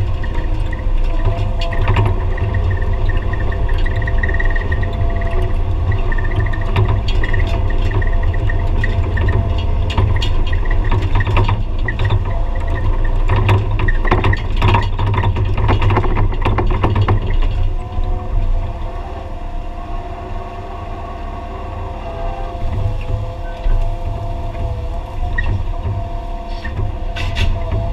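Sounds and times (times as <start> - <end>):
diesel engine running: 0.0 - 27.9
hydraulic whine: 0.0 - 27.9.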